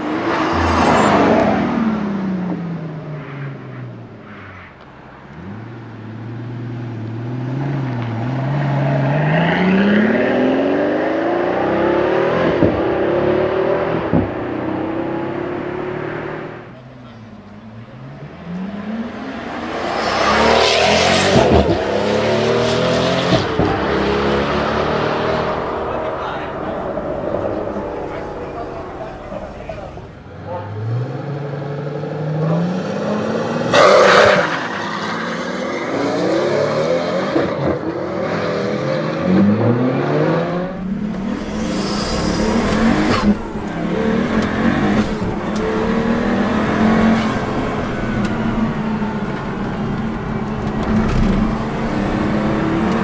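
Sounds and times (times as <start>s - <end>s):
sports car accelerating hard: 5.3s - 53.0s.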